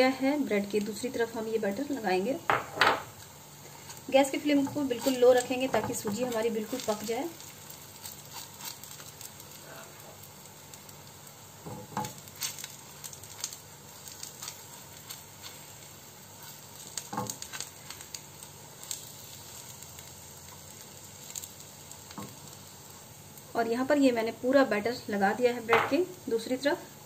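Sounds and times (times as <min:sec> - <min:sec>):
batter sizzling on a pan: 0:00.0 - 0:27.0.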